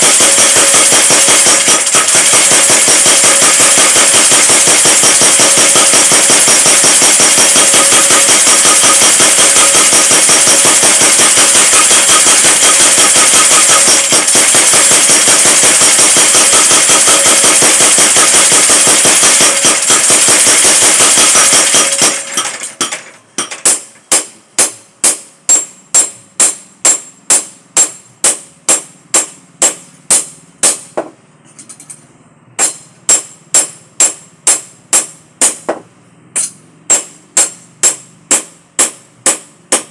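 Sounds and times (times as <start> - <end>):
power hammer pounding metal: 0.0 - 31.1, 32.6 - 39.9.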